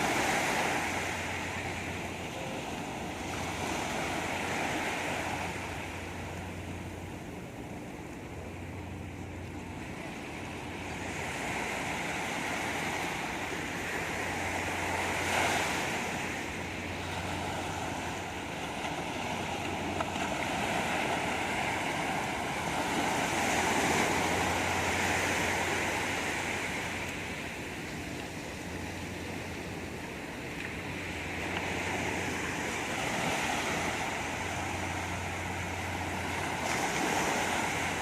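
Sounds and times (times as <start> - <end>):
sea waves breaking on beach: 0.0 - 38.0
wind: 0.0 - 38.0.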